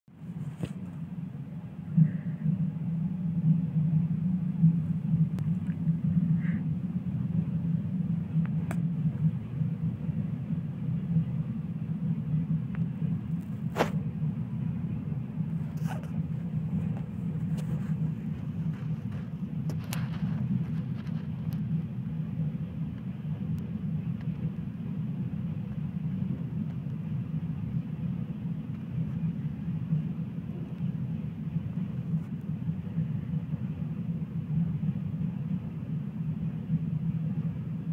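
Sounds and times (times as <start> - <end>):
freight train rumbling: 0.1 - 37.9.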